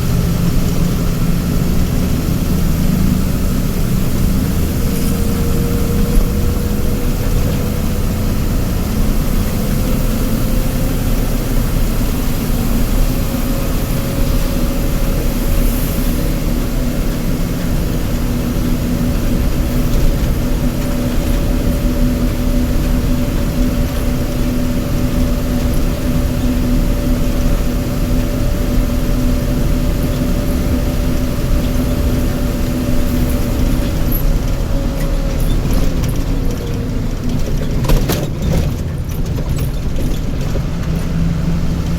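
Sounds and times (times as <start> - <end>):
heavy vehicle engine running: 0.0 - 41.9.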